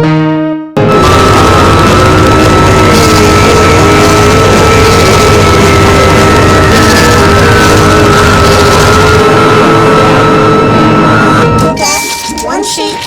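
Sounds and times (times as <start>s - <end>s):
steady high whine: 0.8s - 13.0s
wall of distorted noise: 0.8s - 13.0s
wavering mid-pitched tone: 0.9s - 13.0s.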